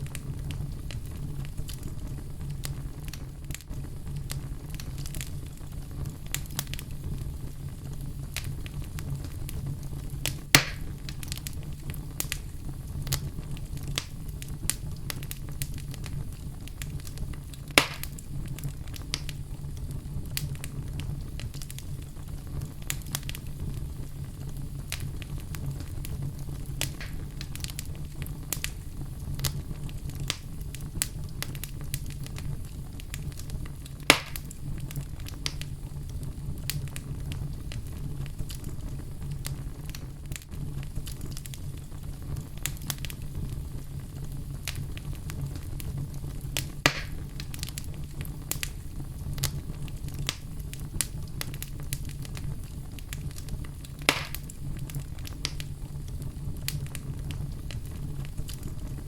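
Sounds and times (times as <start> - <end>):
low burning rumble: 0.0 - 59.0
sharp fire pops: 0.0 - 59.0
wood fire crackling: 0.0 - 59.0.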